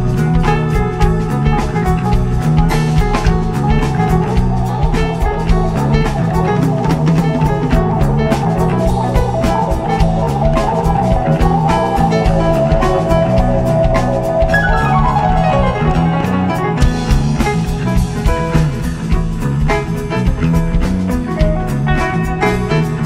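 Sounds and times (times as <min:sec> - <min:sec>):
drum kit: 0:00.0 - 0:23.0
electric bass: 0:00.0 - 0:23.0
keyboards: 0:00.0 - 0:23.0.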